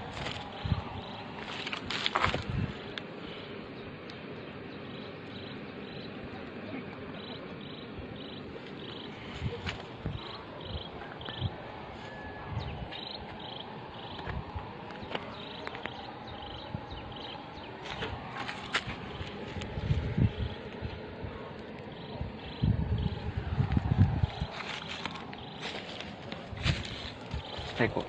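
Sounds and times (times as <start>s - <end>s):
insects chirping: 0.0s - 6.4s, 7.1s - 28.0s
steady hum: 0.0s - 28.0s.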